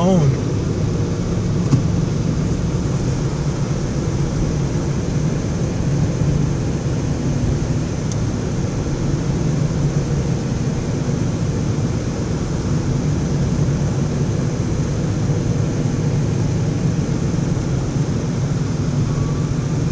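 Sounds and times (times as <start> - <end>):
car cabin road noise: 0.0 - 19.9.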